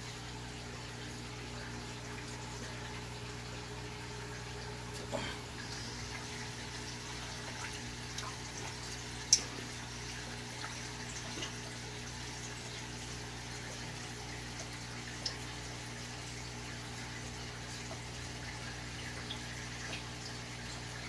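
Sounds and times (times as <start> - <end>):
aquarium filter humming: 0.0 - 21.0
trickling water: 0.0 - 21.0.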